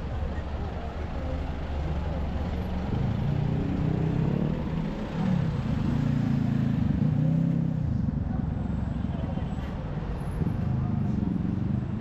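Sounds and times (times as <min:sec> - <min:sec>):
busy city street noise: 0:00.0 - 0:12.0.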